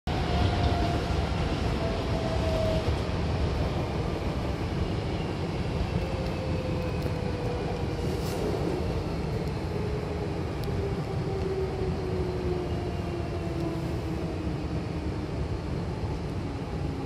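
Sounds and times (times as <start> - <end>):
train rumbling: 0.1 - 17.0.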